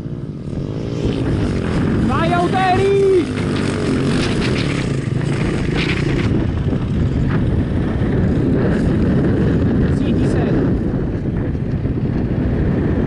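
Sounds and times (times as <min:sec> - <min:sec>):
dirt bike engine running: 0:00.0 - 0:13.0
wind rumble: 0:00.0 - 0:13.0.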